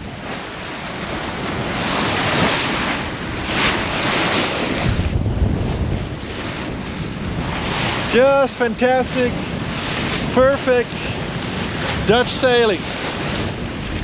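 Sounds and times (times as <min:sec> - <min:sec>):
water rushing along boat hull: 0:00.0 - 0:14.0
wind buffeting microphone: 0:00.0 - 0:14.0.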